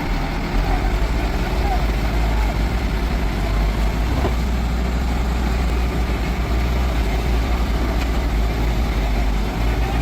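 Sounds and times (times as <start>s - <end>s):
heavy equipment engine droning: 0.0s - 10.0s.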